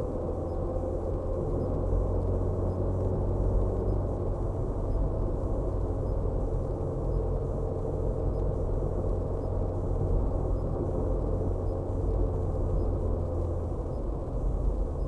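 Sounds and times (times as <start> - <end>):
car engine and tyres droning: 0.0 - 15.0.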